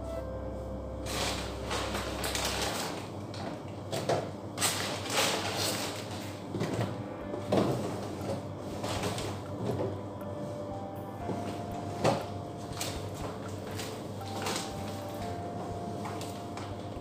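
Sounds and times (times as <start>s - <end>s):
plastic bags rustling: 1.0s - 9.7s, 11.3s - 17.0s.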